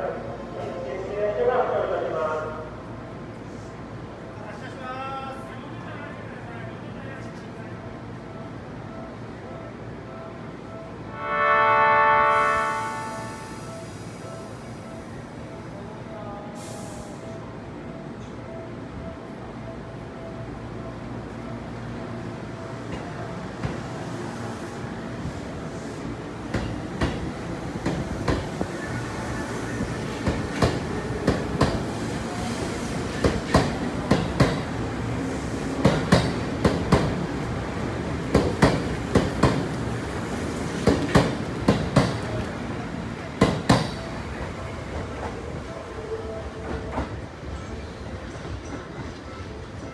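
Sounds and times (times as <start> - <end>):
electric train rolling past: 0.0 - 49.9.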